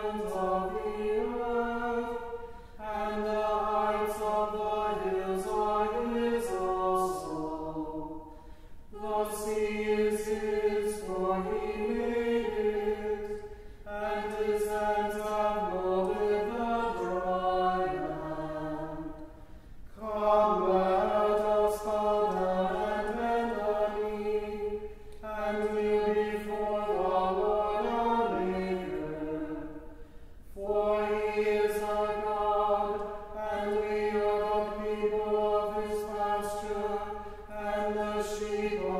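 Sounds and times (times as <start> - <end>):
choir singing a chant: 0.0 - 19.4, 20.0 - 38.9.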